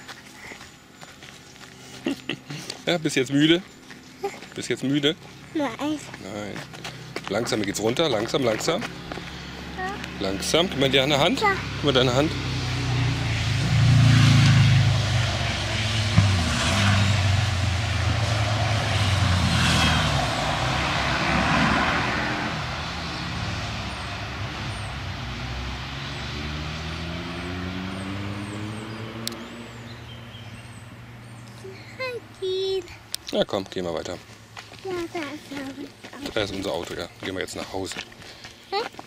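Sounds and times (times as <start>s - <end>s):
vehicle engine passing: 1.4s - 33.0s.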